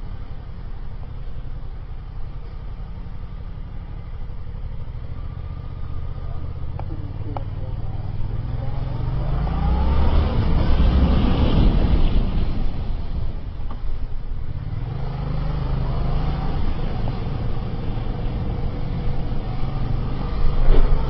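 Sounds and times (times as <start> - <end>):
motorcycle engine running and accelerating: 0.0 - 21.0.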